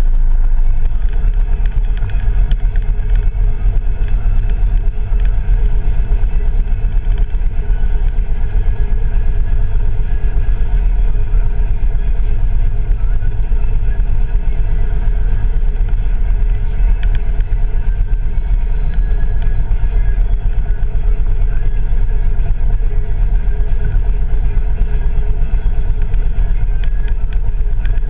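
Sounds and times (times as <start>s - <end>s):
vehicle running noise: 0.0s - 28.0s.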